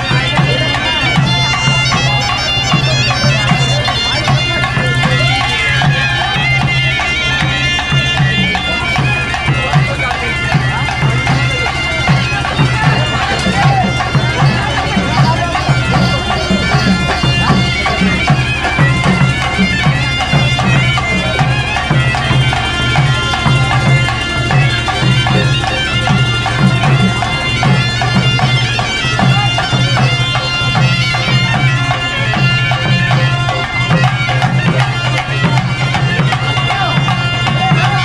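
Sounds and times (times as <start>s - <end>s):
pulsing drum beat: 0.0s - 38.0s
reed wind instrument melody: 0.0s - 38.0s.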